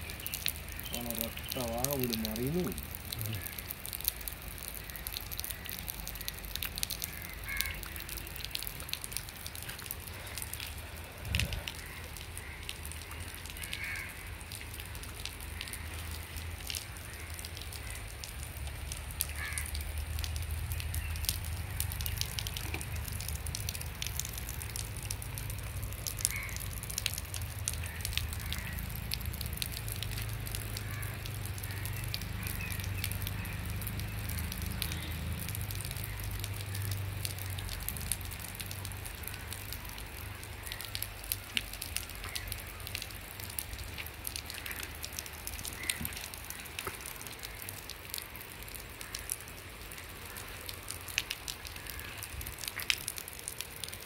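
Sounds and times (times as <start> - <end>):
light rain pattering: 0.0 - 54.0.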